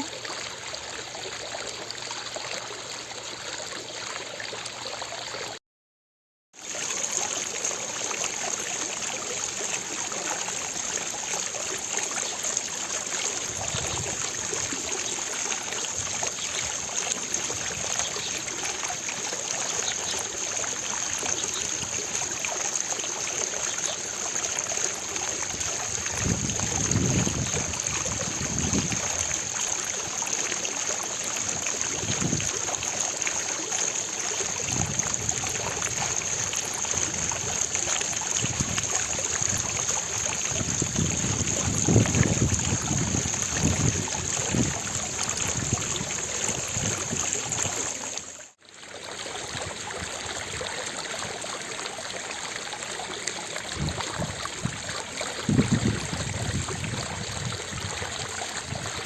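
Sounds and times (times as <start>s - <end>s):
fountain water splashing: 0.0s - 5.6s, 6.6s - 59.0s.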